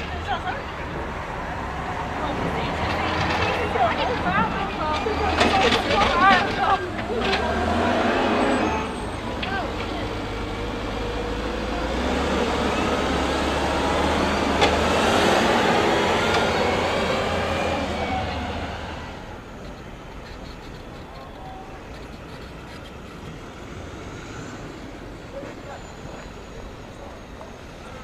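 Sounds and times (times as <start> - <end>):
street noise: 0.0 - 28.0
vehicle passing: 0.0 - 28.0.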